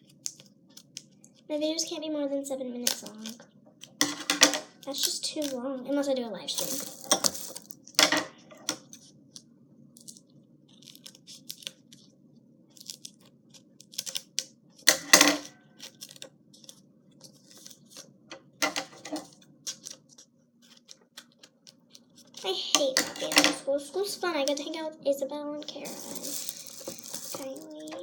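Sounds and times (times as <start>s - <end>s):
paper and tape crinkling: 0.0s - 8.0s, 8.6s - 24.8s, 25.6s - 28.0s.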